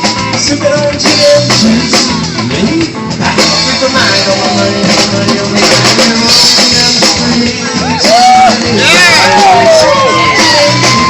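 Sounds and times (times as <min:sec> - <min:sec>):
live band music: 0:00.0 - 0:11.0
person singing: 0:00.0 - 0:11.0.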